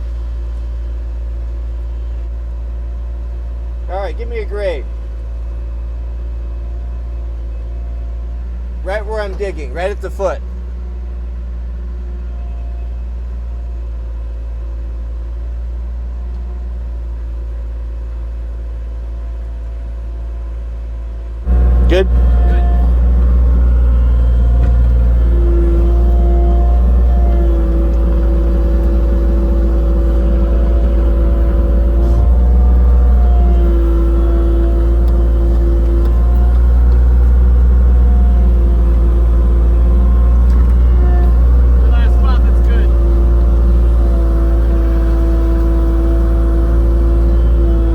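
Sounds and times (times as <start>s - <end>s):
diesel engine humming: 0.0s - 47.9s.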